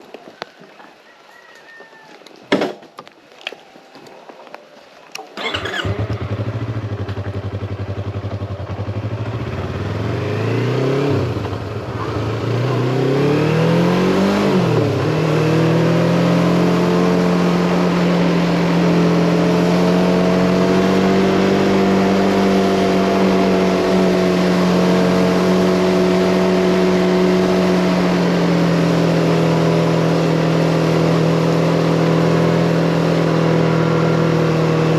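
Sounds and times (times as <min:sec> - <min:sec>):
motorcycle engine revving: 0:05.4 - 0:34.9.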